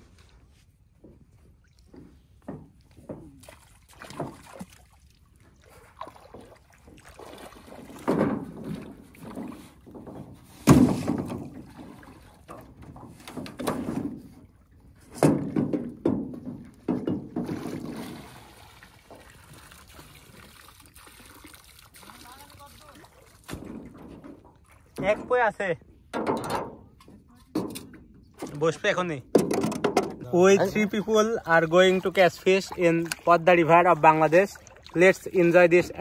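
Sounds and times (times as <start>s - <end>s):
water lapping: 0.0s - 26.1s, 30.2s - 36.0s
knocks and thumps in a boat: 0.7s - 20.5s, 22.2s - 36.0s.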